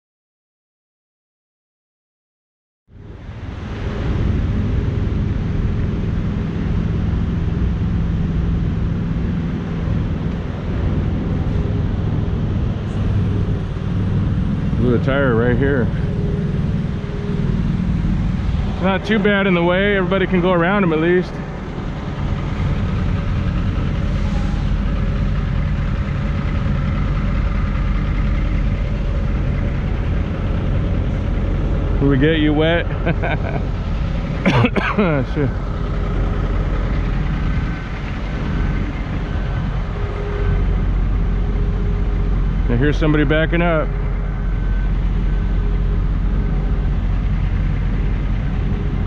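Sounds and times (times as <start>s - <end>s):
diesel truck engine running: 2.9s - 49.0s.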